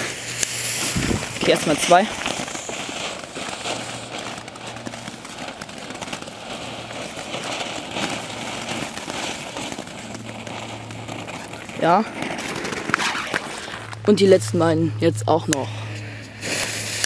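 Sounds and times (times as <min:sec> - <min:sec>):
fireworks hissing and crackling: 0:00.0 - 0:14.6, 0:15.5 - 0:17.0.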